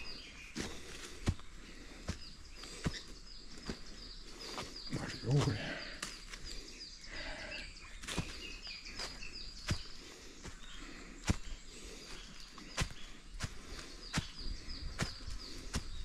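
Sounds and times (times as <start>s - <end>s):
footsteps on forest trail: 0.0s - 16.0s.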